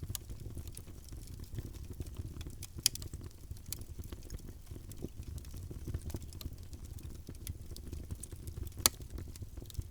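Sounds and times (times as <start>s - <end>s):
wood fire crackling: 0.0s - 9.9s.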